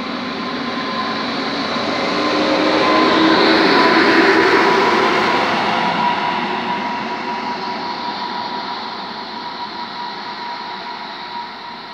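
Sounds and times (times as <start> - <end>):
steady high whine: 0.0 - 11.9
train rolling noise: 0.0 - 11.9.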